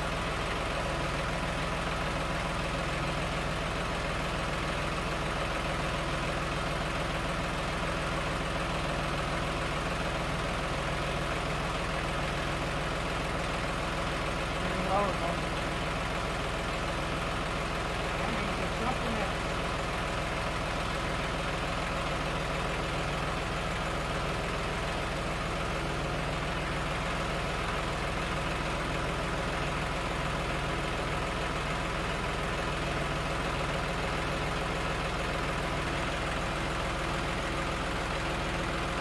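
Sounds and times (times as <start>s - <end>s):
tractor diesel engine idling: 0.0s - 39.0s.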